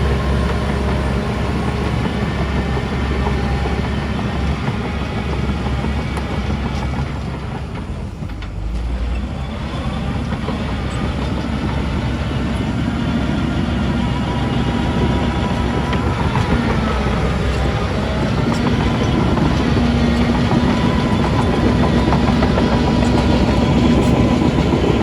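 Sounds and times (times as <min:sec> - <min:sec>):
diesel machinery engine drone: 0:00.0 - 0:25.0.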